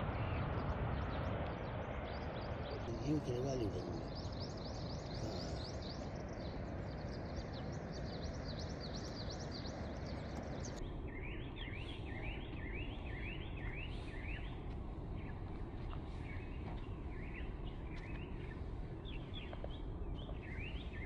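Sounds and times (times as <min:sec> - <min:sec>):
bird chirping: 0:00.1 - 0:21.0.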